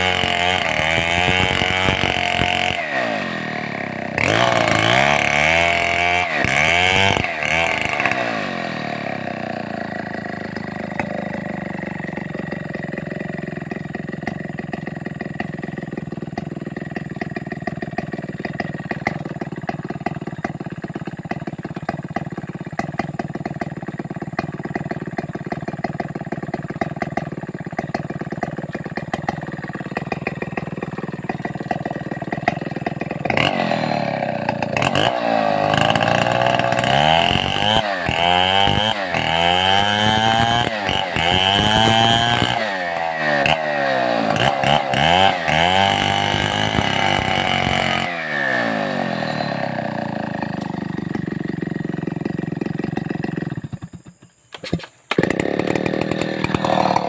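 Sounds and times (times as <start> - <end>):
chainsaw engine revving and idling: 0.0 - 57.0.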